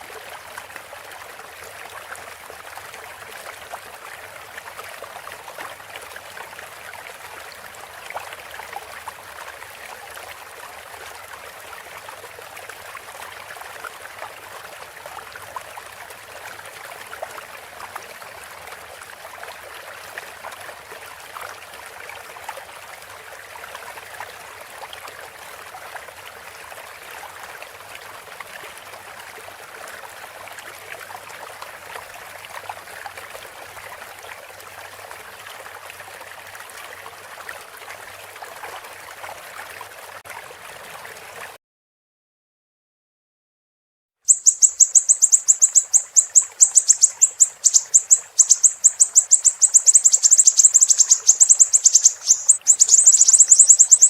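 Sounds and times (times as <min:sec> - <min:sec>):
stream flowing with splashes: 0:00.0 - 0:41.6, 0:44.3 - 0:54.0.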